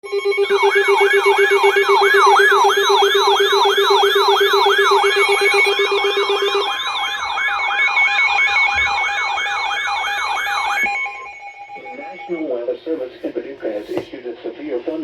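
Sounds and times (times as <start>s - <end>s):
fast wailing siren: 0.0s - 12.3s
steady alert tones: 0.0s - 12.8s.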